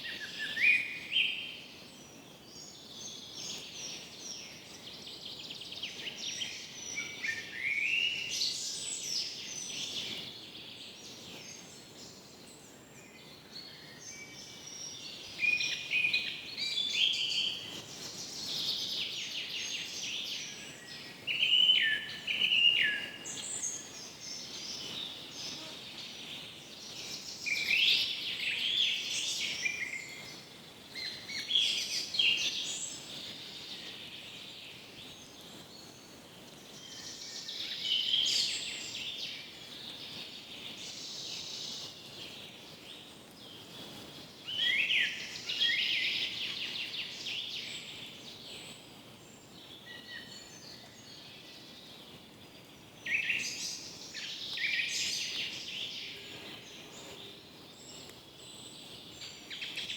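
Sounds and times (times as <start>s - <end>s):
birds singing trilled song: 0.0s - 59.9s
faint background hiss: 0.0s - 59.9s.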